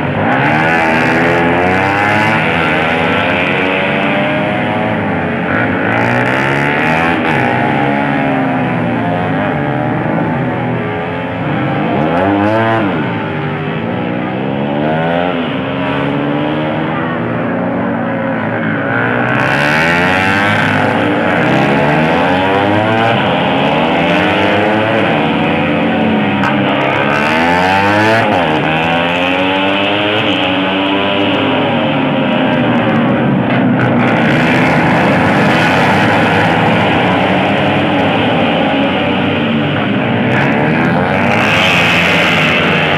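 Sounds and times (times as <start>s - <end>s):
racing motorcycle engines revving: 0.0s - 42.9s.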